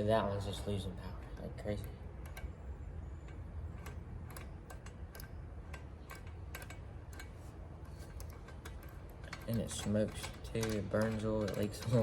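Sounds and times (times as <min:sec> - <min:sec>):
steady low hum: 0:00.0 - 0:12.0
hand tools clicking on metal: 0:01.0 - 0:12.0.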